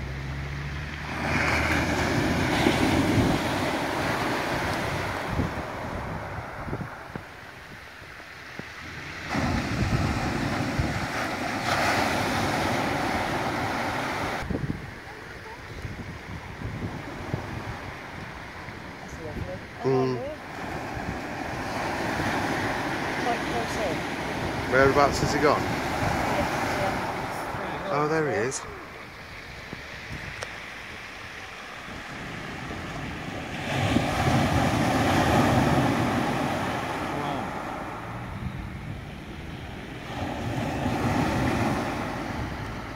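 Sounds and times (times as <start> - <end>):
surf washing up a shingle beach: 0.0 - 42.9
wave breaking: 0.7 - 42.9
wind buffeting microphone: 1.1 - 42.9.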